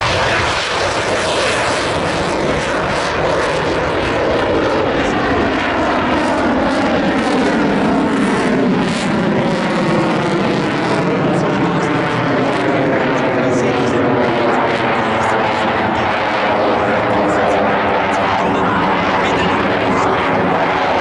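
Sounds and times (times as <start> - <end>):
fighter jet engine noise: 0.0 - 21.0.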